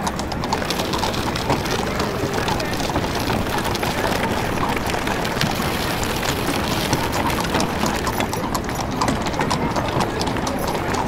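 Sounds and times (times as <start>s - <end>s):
carriages rolling: 0.0s - 11.0s
horses' hooves clip-clopping: 0.0s - 11.0s.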